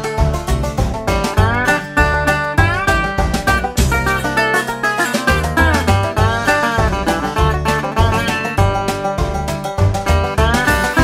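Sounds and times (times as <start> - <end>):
upbeat country music: 0.0 - 11.0.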